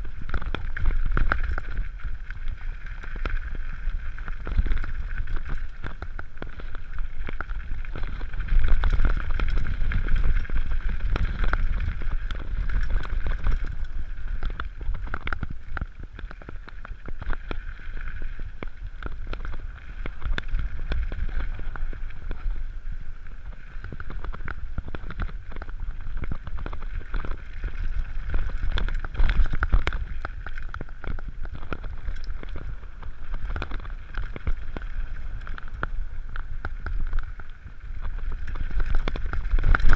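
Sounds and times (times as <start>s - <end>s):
bike rattling: 0.0s - 39.9s
clicks and knocks over bumps: 0.0s - 39.9s
tyres on loose gravel: 0.0s - 39.9s
wind on microphone: 0.0s - 39.9s.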